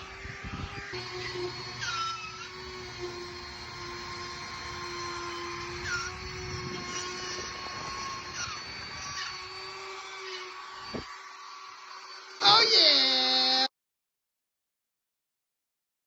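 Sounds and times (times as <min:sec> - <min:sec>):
power tool motor whining: 0:00.0 - 0:13.7.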